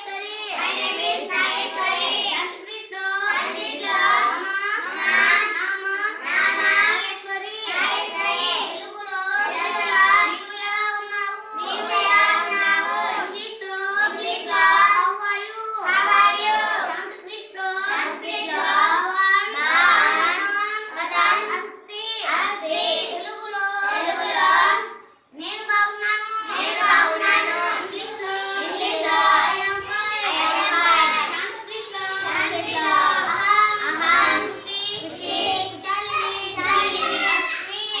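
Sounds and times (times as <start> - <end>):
girl chanting in sing-song voice: 0.0 - 38.0.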